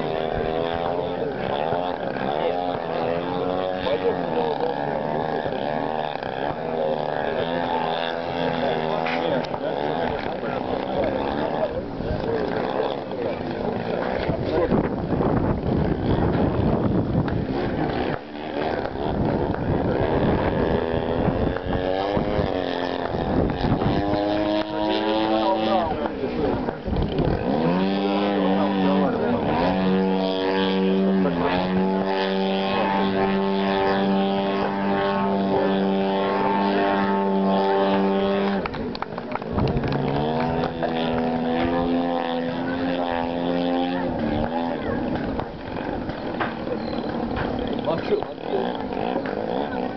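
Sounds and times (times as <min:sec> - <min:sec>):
propeller plane engine overhead: 0:00.0 - 0:49.9
rough wind-like noise: 0:00.0 - 0:49.9.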